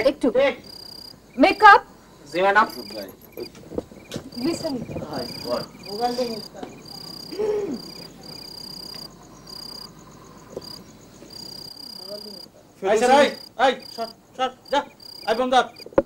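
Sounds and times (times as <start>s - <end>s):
people talking indistinctly: 0.0s - 9.6s, 11.9s - 15.8s
crickets chirping: 0.0s - 16.0s.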